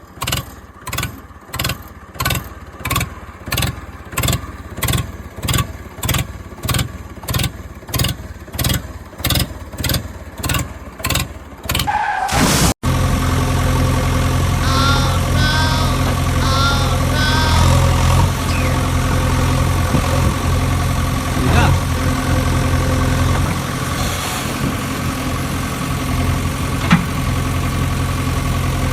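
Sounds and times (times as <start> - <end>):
engine chugging slowly: 0.0 - 11.9, 12.9 - 28.9
engine idling: 0.0 - 11.9, 12.9 - 28.9.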